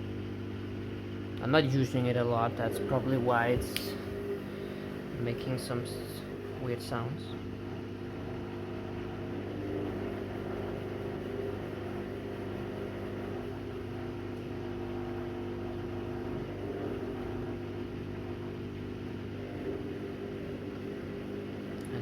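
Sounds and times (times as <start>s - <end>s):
washing machine humming: 0.0s - 22.0s.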